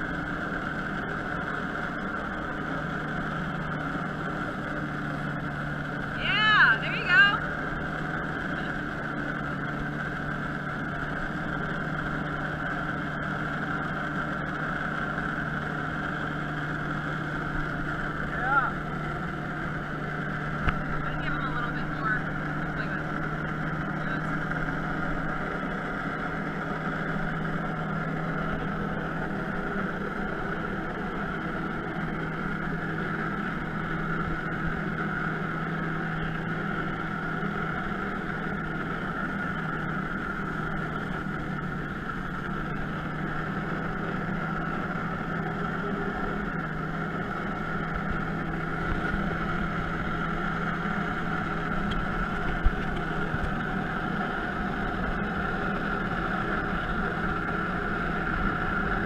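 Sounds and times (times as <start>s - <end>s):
watercraft engine running steadily: 0.0s - 59.0s.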